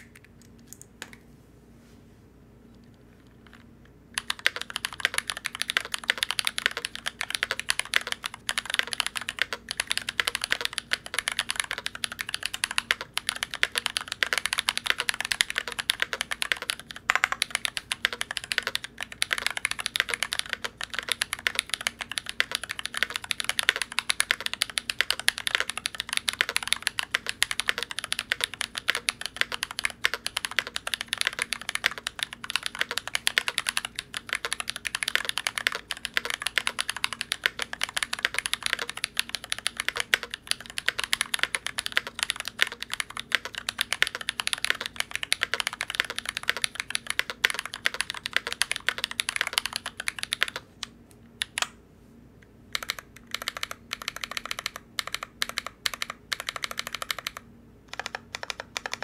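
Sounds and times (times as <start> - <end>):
mechanical keyboard typing: 4.2 - 50.7, 51.4 - 51.7, 52.7 - 59.0.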